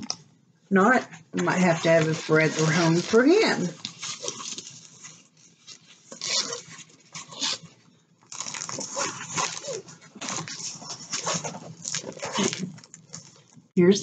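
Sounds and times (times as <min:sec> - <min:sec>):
canvas and plastic film crinkling: 0:01.4 - 0:13.7.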